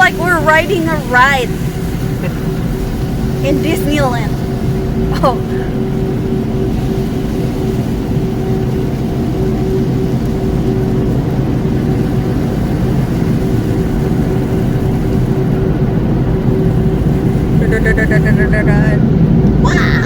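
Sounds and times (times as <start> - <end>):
car wash machinery rumbling: 0.0 - 20.0
constant hum: 0.0 - 20.0.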